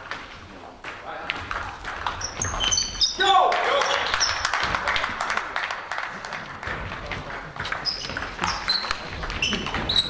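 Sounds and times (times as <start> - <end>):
sports hall background noise: 0.0 - 10.0.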